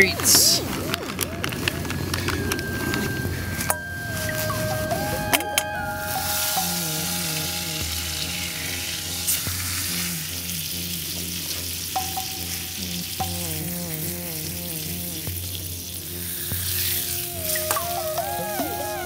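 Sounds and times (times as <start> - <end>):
soft background melody: 0.0 - 19.0.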